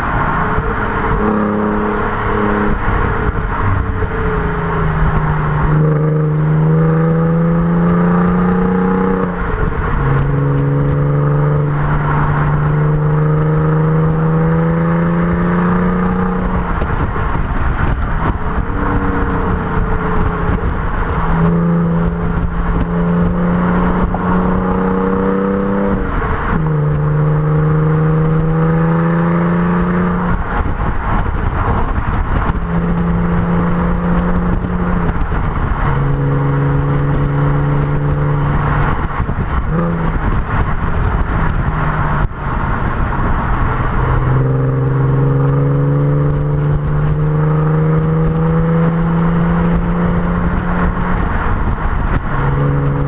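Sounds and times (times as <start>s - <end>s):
car engine and exhaust accelerating: 0.0s - 53.0s
road and wind noise: 0.0s - 53.0s.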